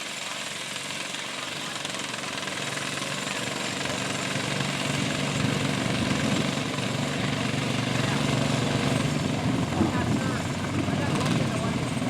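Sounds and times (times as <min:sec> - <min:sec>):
engine pulsing drone: 0:02.3 - 0:12.0.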